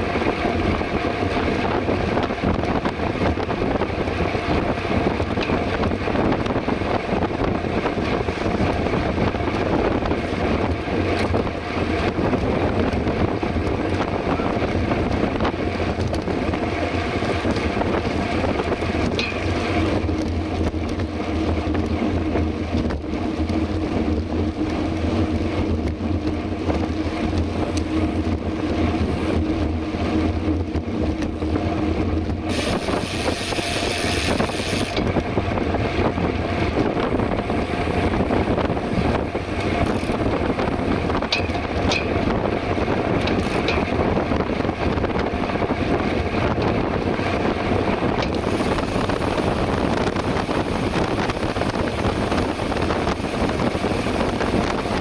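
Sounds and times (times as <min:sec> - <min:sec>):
bike tyre noise on road: 0:00.0 - 0:55.0
wind rushing over microphone: 0:00.0 - 0:55.0.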